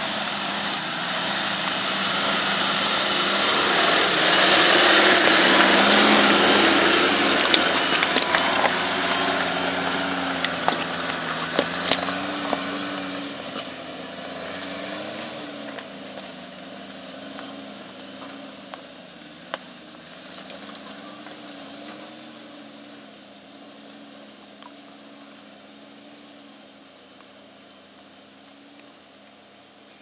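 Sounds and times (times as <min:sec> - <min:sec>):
off-road vehicle engine pulling uphill: 0:00.0 - 0:30.0.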